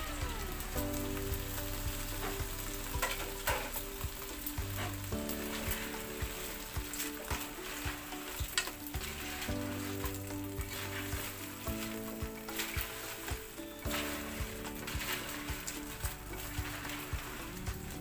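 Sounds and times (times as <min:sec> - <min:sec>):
crabs sizzling in a frying pan: 0:00.0 - 0:18.0.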